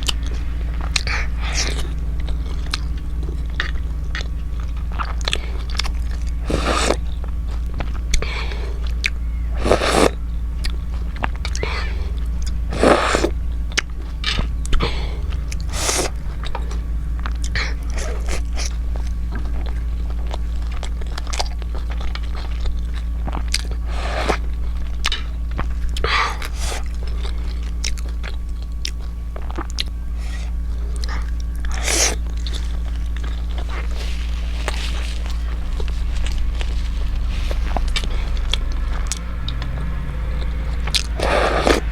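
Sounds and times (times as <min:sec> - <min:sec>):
chewing and biting dumplings: 0:00.0 - 0:41.9
steady low hum: 0:00.0 - 0:41.9.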